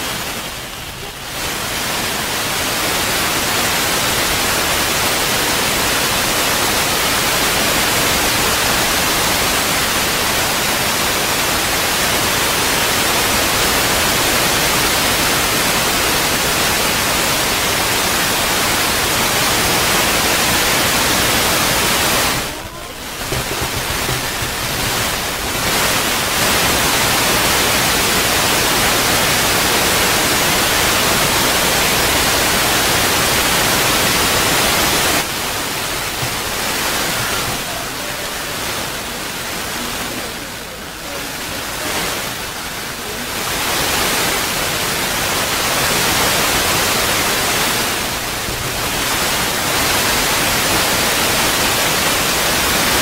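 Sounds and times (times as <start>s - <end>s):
loud steady static hiss: 0.0s - 53.0s.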